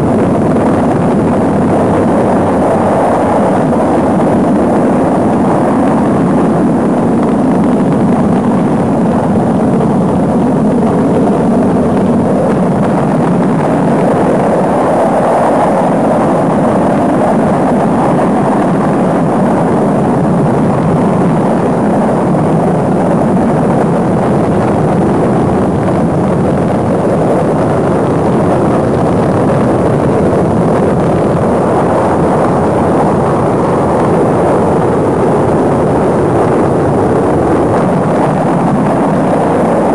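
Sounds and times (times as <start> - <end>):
rocket engines rumbling: 0.0 - 39.9.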